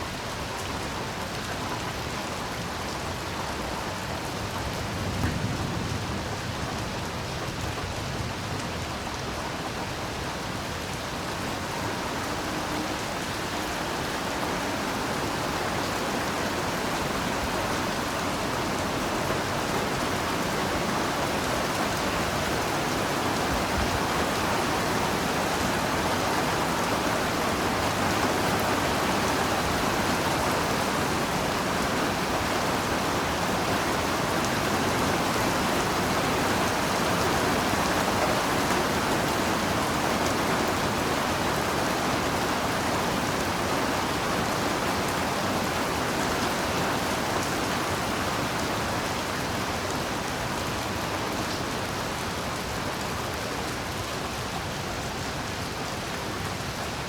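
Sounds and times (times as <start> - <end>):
heavy rain on foliage: 0.0 - 57.0.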